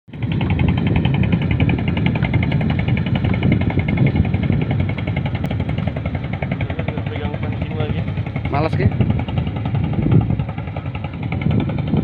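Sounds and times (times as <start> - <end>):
small boat engine running: 0.1 - 12.0.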